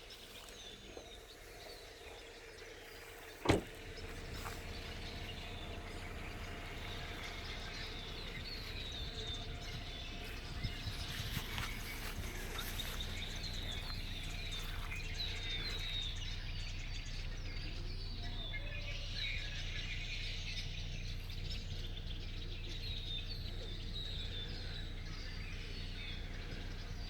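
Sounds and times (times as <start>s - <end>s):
birds chirping: 0.0s - 27.0s
steady low rumble: 0.0s - 27.0s.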